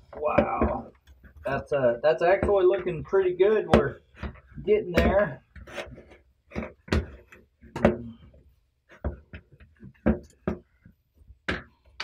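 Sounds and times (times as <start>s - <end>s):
dough kneading knocks and thumps: 0.0s - 12.0s.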